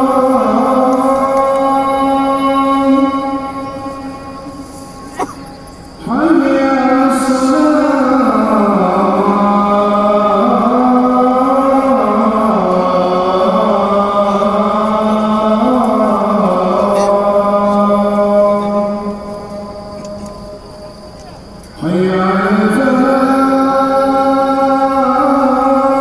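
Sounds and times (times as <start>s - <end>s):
man chanting call to prayer: 0.0s - 4.2s, 6.0s - 19.9s, 21.7s - 26.0s.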